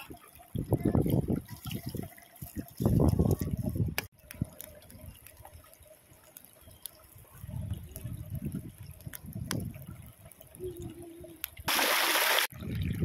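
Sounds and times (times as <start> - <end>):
fire crackling: 0.0 - 12.8
stream trickling: 0.0 - 13.0.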